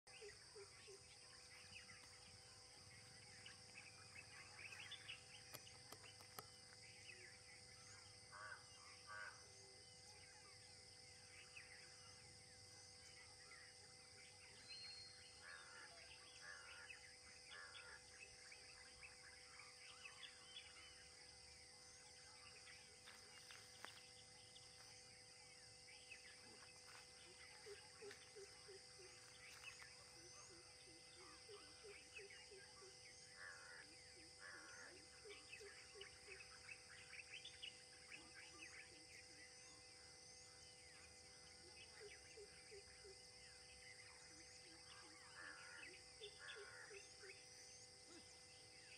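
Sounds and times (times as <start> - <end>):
birds chirping: 0.0 - 48.9
high-pitched insect drone: 0.1 - 48.9.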